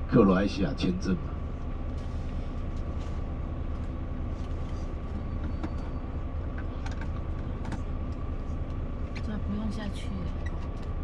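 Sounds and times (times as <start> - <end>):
bus engine idling hum: 0.0 - 11.0.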